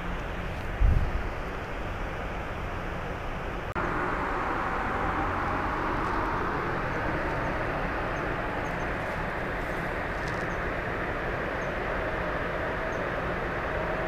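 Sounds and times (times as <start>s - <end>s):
rushing sound with low rumble: 0.0s - 14.0s.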